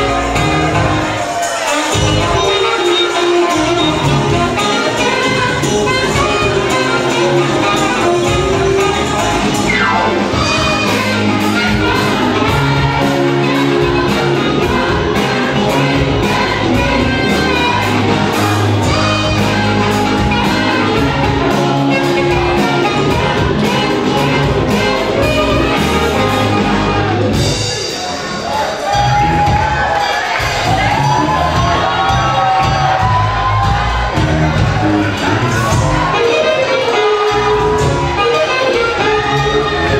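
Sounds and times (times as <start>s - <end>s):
live band playing: 0.0s - 39.9s
saxophone: 0.0s - 39.9s
steady drum beat: 0.0s - 39.9s.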